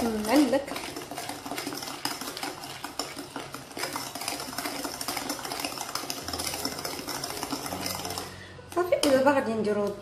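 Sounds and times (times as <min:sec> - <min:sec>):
utensil tapping glass bowl: 0:00.0 - 0:10.0
wet scraping of batter: 0:00.0 - 0:10.0.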